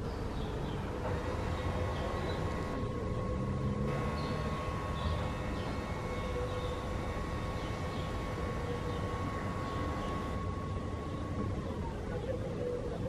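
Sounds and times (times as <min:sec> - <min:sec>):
faint constant hum: 0:00.0 - 0:13.0
low outdoor rumble: 0:00.0 - 0:13.0.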